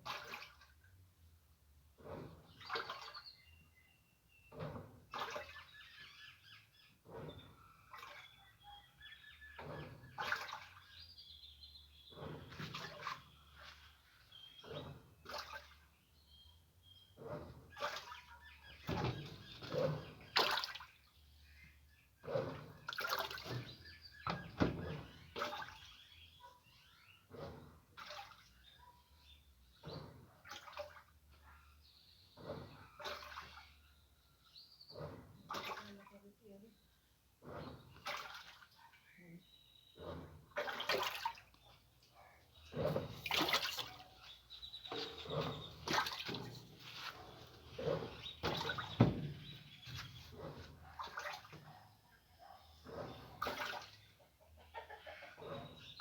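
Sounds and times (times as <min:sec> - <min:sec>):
water sloshing in washing machine: 0:00.0 - 0:56.0.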